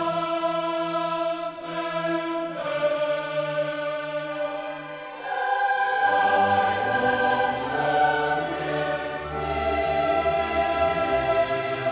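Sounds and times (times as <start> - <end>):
choir singing sustained chords: 0.0 - 11.9.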